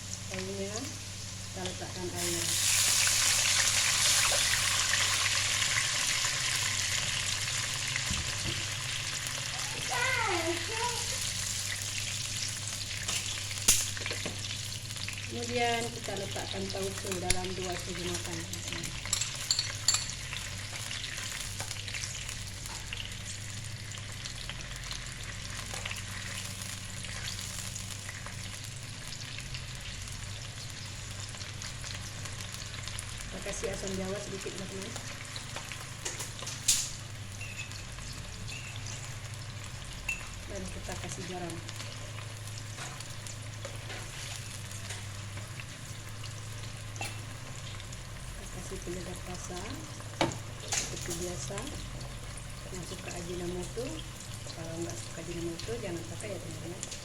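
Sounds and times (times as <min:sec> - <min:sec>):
water sizzling in hot oil: 0:00.0 - 0:57.0.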